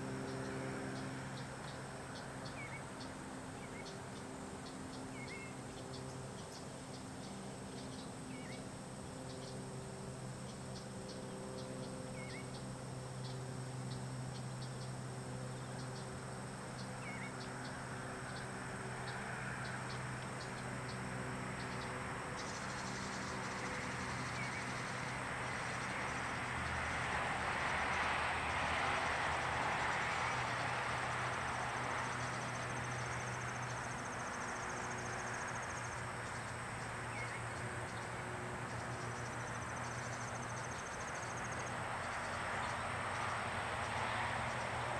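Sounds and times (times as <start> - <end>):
vehicle passing: 0.0 - 7.6, 11.7 - 44.9
insects chirping and trilling: 0.0 - 44.9.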